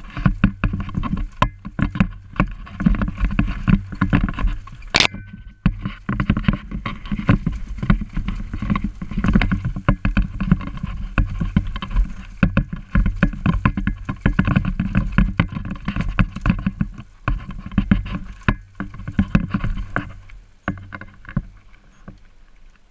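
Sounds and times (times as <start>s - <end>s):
bicycle rattling over bumpy trail: 0.0s - 22.9s.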